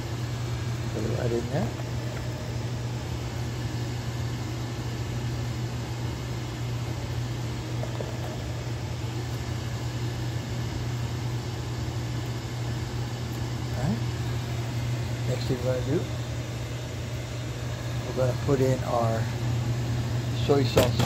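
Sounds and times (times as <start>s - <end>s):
fan running: 0.0s - 21.0s.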